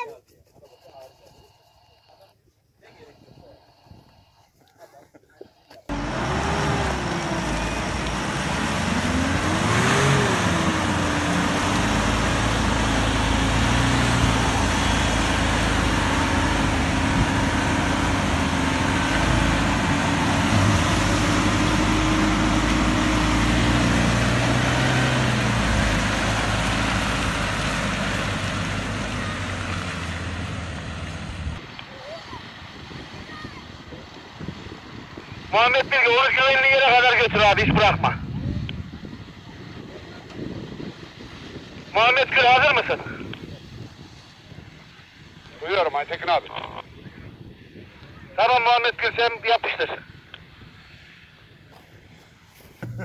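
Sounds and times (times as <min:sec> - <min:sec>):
truck engines under load: 0:00.0 - 0:53.0.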